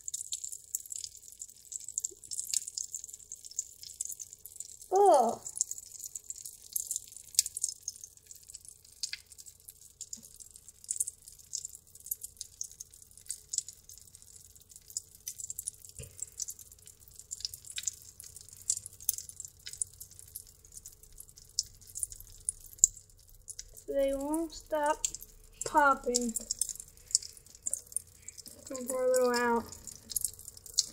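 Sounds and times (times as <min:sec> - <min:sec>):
candy fizzing and crackling: 0:00.0 - 0:30.9.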